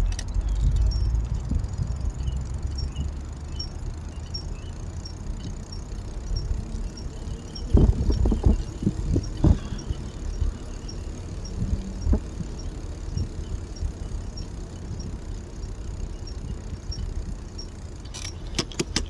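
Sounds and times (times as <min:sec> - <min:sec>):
bicycle knocks and rattles: 0:00.0 - 0:19.0
faint high ticking: 0:00.0 - 0:19.0
wind and tyre rumble: 0:00.0 - 0:19.0.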